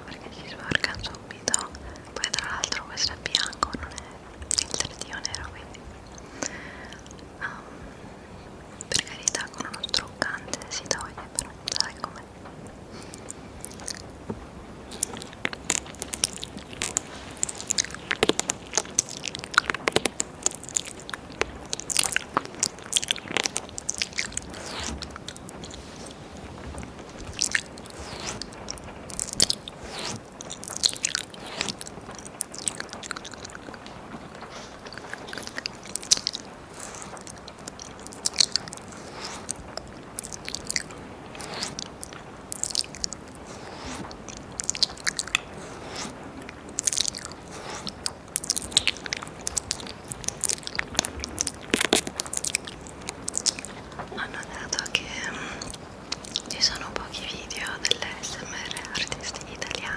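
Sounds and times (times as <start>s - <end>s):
wet mouth clicks and smacks: 0.0s - 7.3s, 8.8s - 26.2s, 27.0s - 59.9s.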